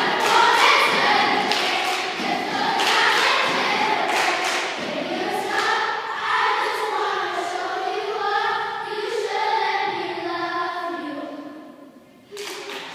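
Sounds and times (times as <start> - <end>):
choir singing held notes: 0.0 - 11.8.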